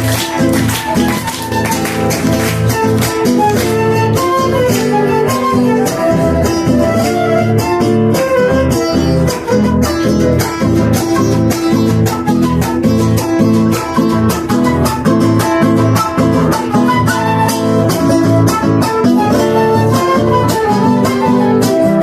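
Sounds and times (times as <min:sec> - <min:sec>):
strummed acoustic guitar folk music: 0:00.0 - 0:22.0.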